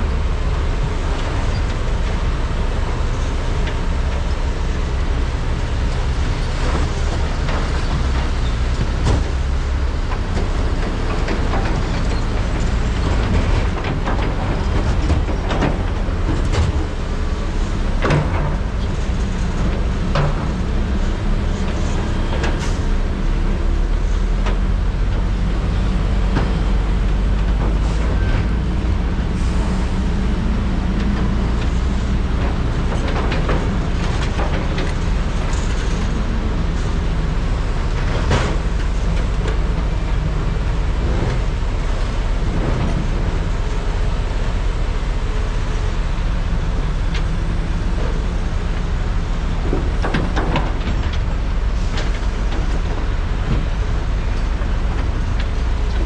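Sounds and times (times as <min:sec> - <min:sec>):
excavator diesel engines under load: 0:00.0 - 0:56.0.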